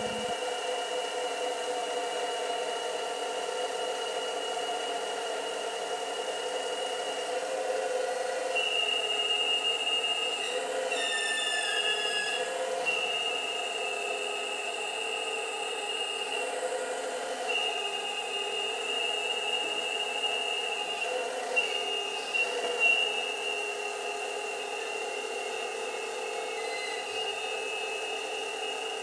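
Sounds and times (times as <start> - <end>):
hydraulic pump whine: 0.0 - 29.0.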